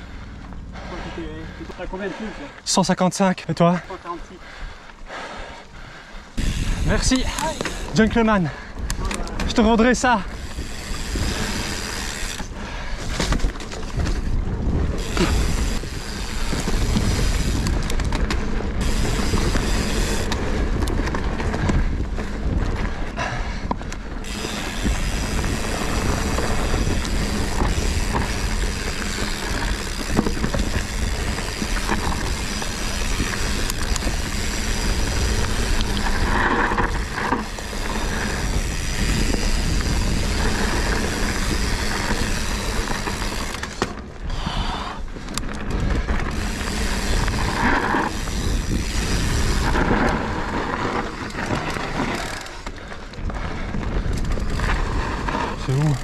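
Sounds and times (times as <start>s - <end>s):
bike rattling over bumps: 4.6s - 56.0s
wind rushing over microphone: 5.7s - 56.0s
tyres rolling over dirt: 9.3s - 44.2s, 45.1s - 56.0s.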